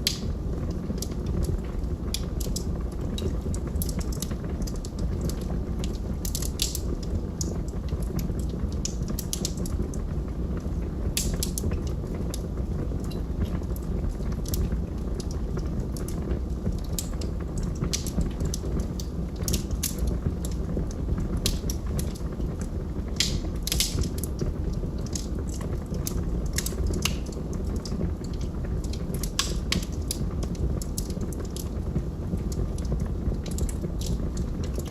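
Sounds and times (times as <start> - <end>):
log fire crackling: 0.0 - 34.9.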